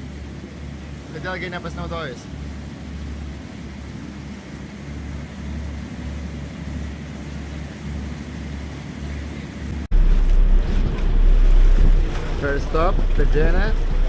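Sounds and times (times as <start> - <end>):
ferry engine droning: 0.0 - 14.0
wind buffeting microphone: 2.3 - 14.0.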